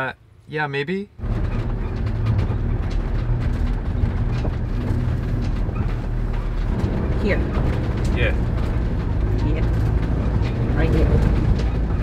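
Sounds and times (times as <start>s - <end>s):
engine and tyre rumble: 1.1s - 12.0s
gravel crackling under tyres: 1.2s - 12.0s.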